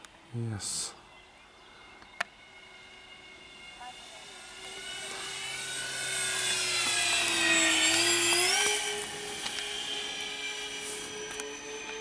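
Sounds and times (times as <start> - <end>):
model plane motors whining past: 1.1 - 12.0.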